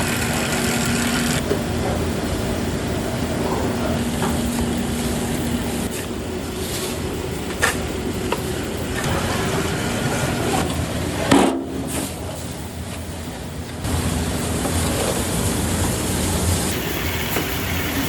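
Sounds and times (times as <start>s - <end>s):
factory machinery rumbling: 0.0s - 18.0s.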